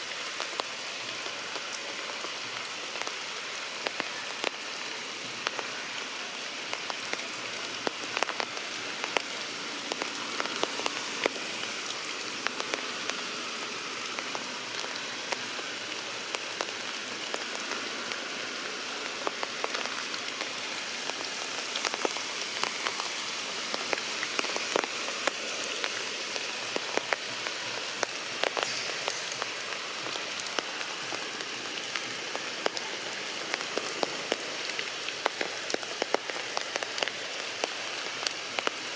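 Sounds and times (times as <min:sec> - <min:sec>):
heavy rain falling: 0:00.0 - 0:38.9
raindrops tapping: 0:06.7 - 0:38.9.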